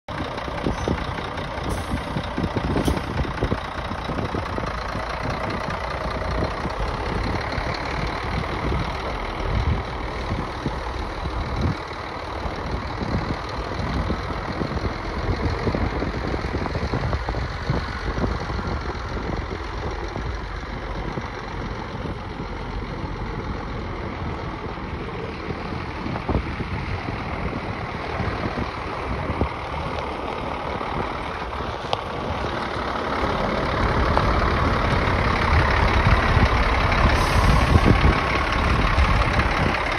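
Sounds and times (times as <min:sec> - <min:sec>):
diesel truck engine running: 0:00.1 - 0:39.9.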